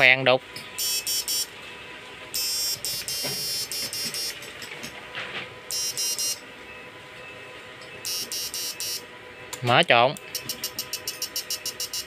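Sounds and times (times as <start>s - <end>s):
high-pitched pulsing electrical buzz: 0.0s - 5.0s, 5.6s - 6.5s, 8.0s - 12.0s.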